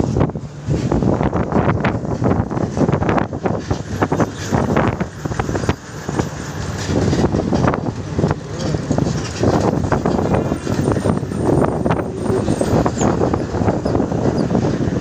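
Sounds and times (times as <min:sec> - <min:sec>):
vehicle road and engine rumble: 0:00.0 - 0:15.0
wind noise on microphone: 0:00.0 - 0:15.0.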